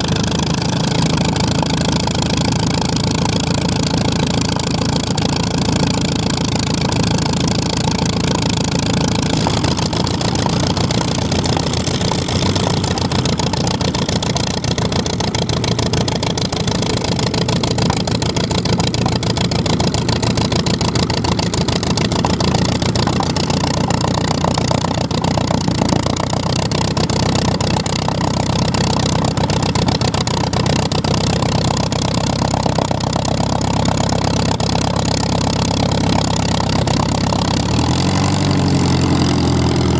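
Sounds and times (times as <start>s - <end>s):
piston aircraft engine running: 0.0s - 39.9s.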